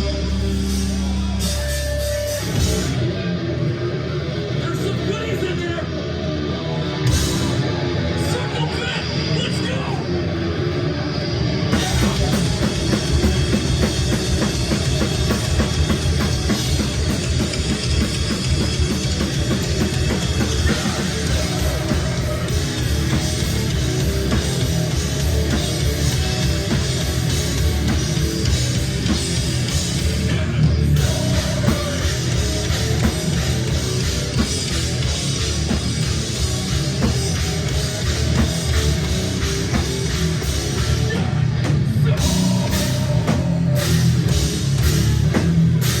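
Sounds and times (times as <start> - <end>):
pounding drum kit: 0.0 - 3.7, 6.9 - 46.0
bass guitar: 0.0 - 46.0
distorted electric guitars: 0.0 - 46.0.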